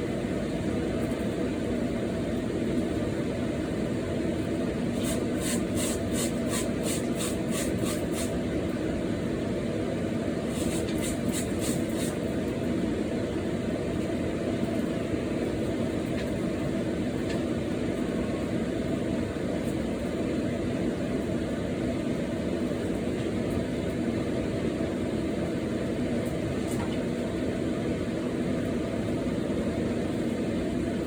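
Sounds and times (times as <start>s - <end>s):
low rumbling fan-like noise: 0.0s - 31.0s.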